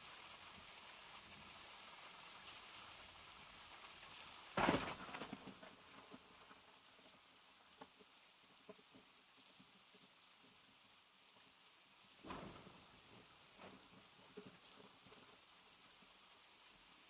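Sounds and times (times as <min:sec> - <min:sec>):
soft steady rain: 0:00.0 - 0:17.0.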